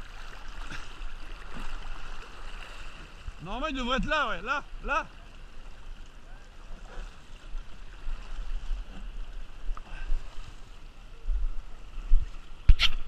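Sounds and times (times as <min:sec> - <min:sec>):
river current lapping: 0:00.0 - 0:13.0.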